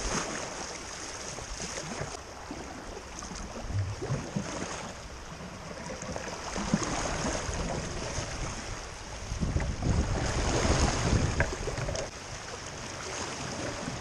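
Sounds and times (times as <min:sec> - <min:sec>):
creek water rushing: 0:00.0 - 0:14.0
paddle strokes splashing: 0:00.0 - 0:14.0.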